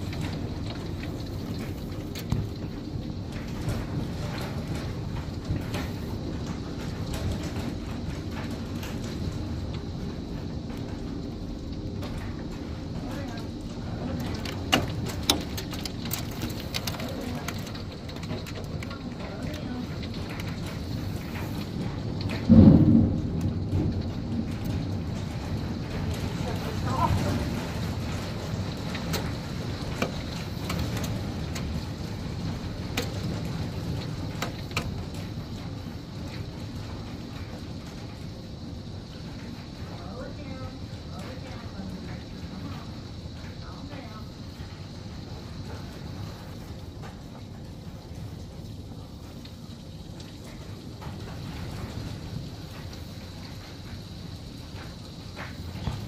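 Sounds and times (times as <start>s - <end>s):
hailstones hitting surfaces: 0.0s - 56.0s
heavy rain: 0.0s - 56.0s
strong wind: 0.0s - 56.0s.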